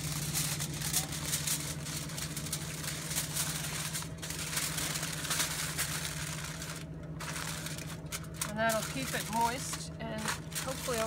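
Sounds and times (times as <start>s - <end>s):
aluminium foil crinkling: 0.0s - 11.0s
steady low hum: 0.0s - 11.0s.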